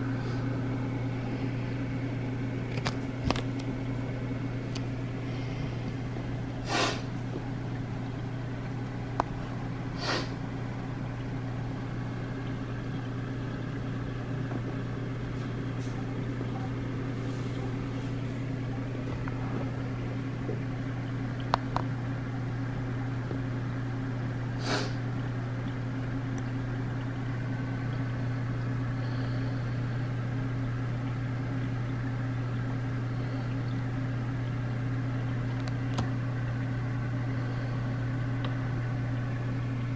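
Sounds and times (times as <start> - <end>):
aquarium pumps humming: 0.0 - 39.9.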